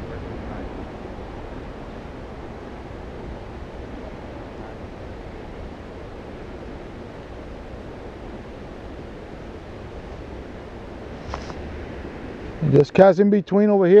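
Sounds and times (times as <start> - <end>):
wind buffeting microphone: 0.0 - 13.1
steady rushing noise: 0.0 - 14.0.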